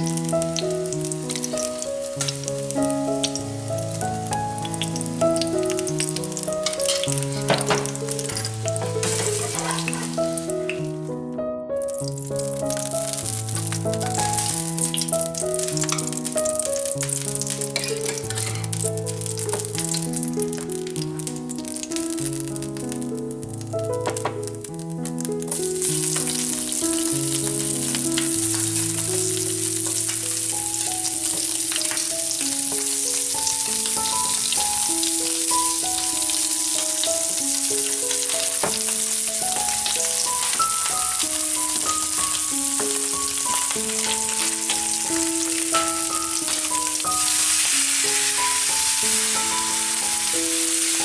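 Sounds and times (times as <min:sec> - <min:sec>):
meat sizzling in hot oil: 0:00.0 - 0:11.1, 0:11.8 - 0:51.0.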